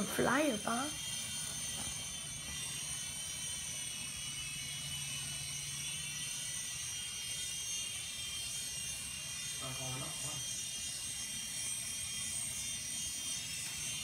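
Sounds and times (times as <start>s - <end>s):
toy quadcopter whine: 0.0s - 14.0s.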